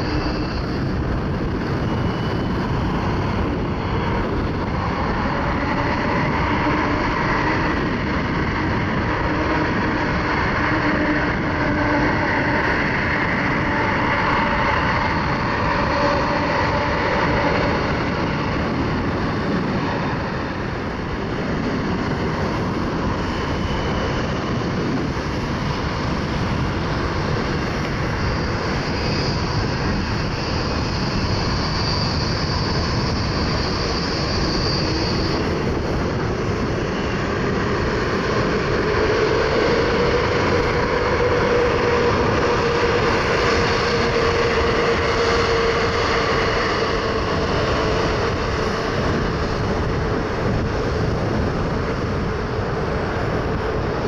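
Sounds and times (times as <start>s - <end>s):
high jet engine whine: 0.0s - 54.0s
jet engines rushing: 0.0s - 54.0s
low jet engine whine: 0.0s - 54.0s.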